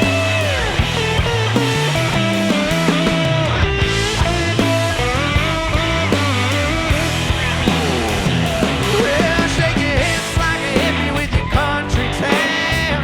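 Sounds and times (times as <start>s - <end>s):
bass guitar: 0.0s - 13.0s
drums: 0.0s - 13.0s
electric guitar lead with bends: 0.0s - 13.0s.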